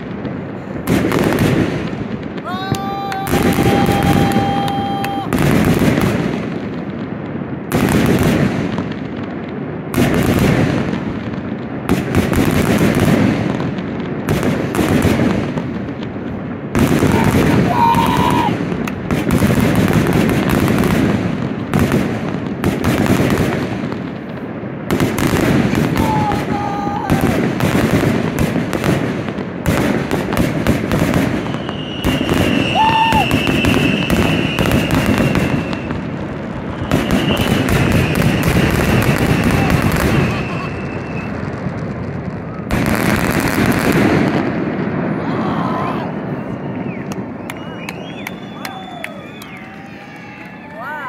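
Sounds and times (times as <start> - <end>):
fireworks bangs and booms: 0.0 - 51.0.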